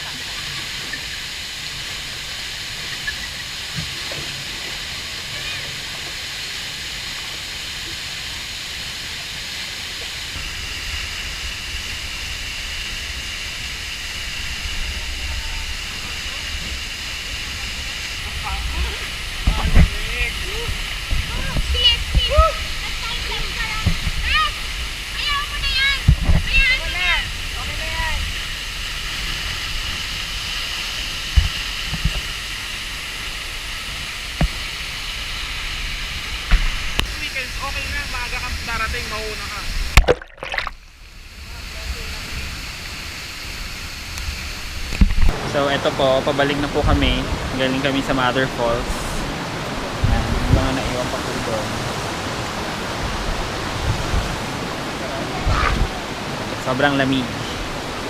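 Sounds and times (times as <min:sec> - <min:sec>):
falling water rushing: 0:00.0 - 0:58.0
low water rumble: 0:00.0 - 0:58.0.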